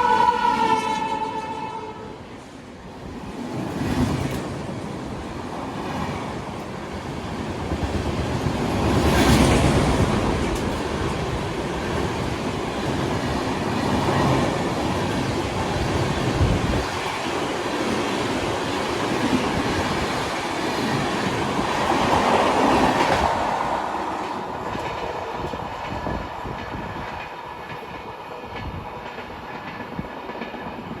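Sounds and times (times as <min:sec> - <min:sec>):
train wheels clacking on rails: 0:02.3 - 0:31.0.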